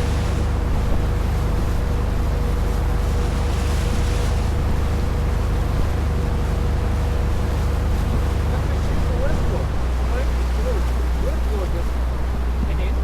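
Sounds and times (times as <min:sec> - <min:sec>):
boat engine hum: 0:00.0 - 0:13.0
water rushing along hull: 0:00.0 - 0:13.0
wind on microphone: 0:00.0 - 0:13.0.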